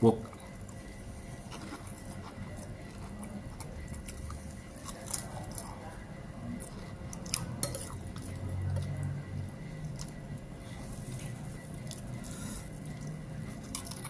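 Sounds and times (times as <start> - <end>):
chewing: 0.2 - 14.0.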